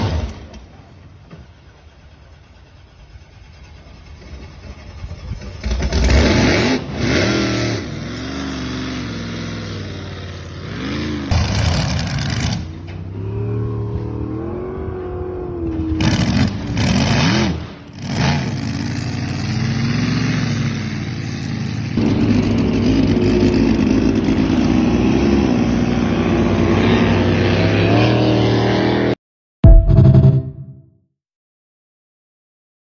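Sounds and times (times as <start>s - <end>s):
speedboat engines revving: 2.3s - 29.1s.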